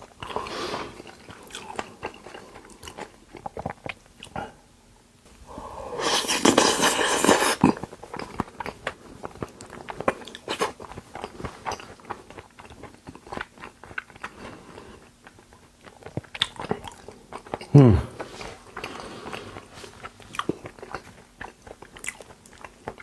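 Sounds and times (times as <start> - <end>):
chewing and mouth noises: 0.0 - 4.6, 5.6 - 23.0.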